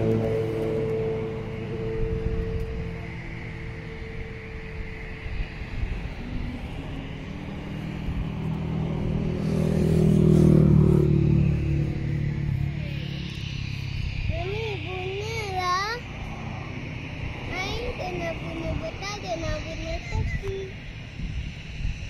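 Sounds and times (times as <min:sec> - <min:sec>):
engine drone: 0:00.0 - 0:22.0
wind buffeting microphone: 0:00.0 - 0:22.0.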